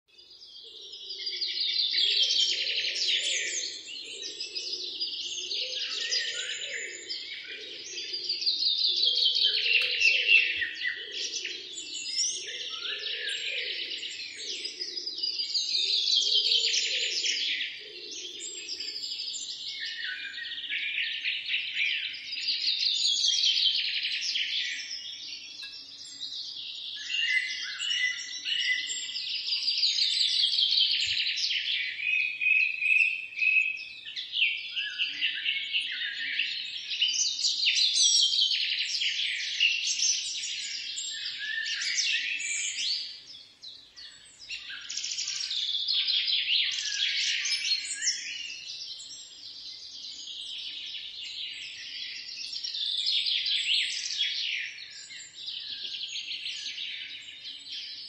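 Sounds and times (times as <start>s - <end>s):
birds trilling and chirping: 0.2s - 58.0s.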